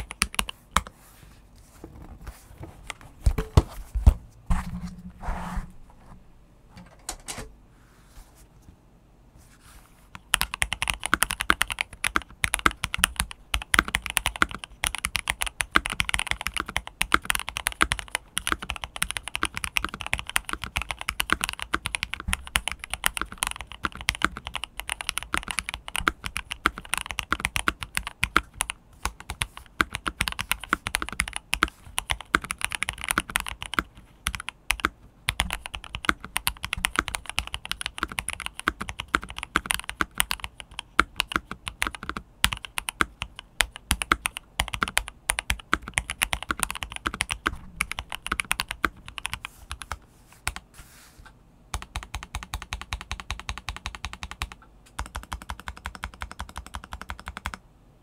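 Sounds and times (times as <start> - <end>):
fast typing on mechanical keyboard: 0.0 - 0.9, 10.3 - 50.6, 51.7 - 57.6.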